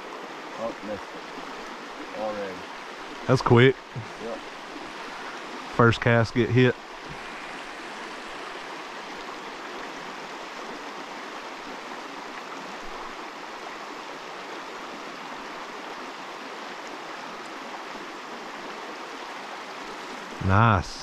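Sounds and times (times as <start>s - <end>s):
stream flowing: 0.0s - 21.0s.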